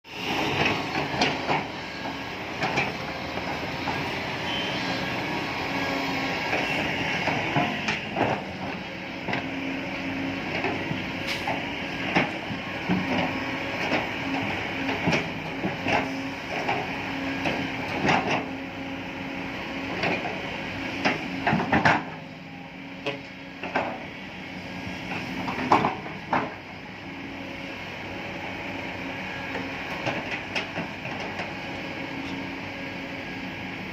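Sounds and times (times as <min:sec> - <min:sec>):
heavy machinery humming: 0:00.1 - 0:33.9.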